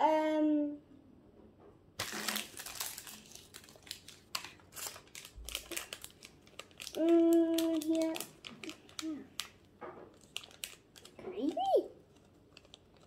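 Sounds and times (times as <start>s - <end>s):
foil packet crinkling and tearing: 2.0s - 13.0s.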